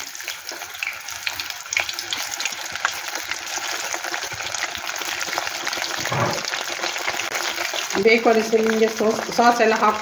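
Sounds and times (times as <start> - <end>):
deep-frying sizzle and bubbling: 0.0 - 10.0
oil crackling and popping: 0.0 - 10.0.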